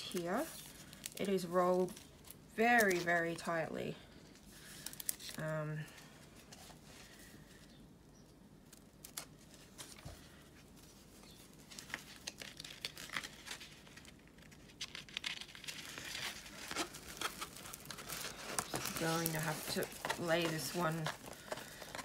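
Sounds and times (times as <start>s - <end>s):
plastic crinkling: 0.0s - 7.7s, 8.6s - 22.0s.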